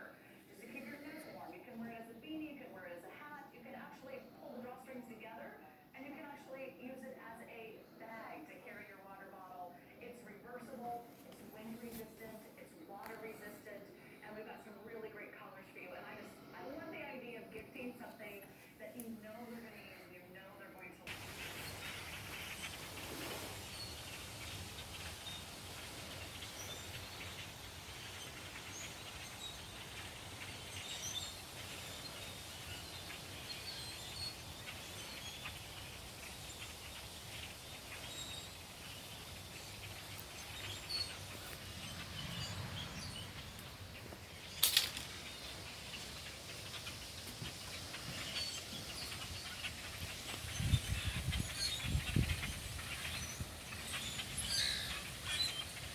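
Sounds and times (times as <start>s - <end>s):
flock of birds chirping: 0.0s - 55.9s
steady background noise: 0.0s - 55.9s.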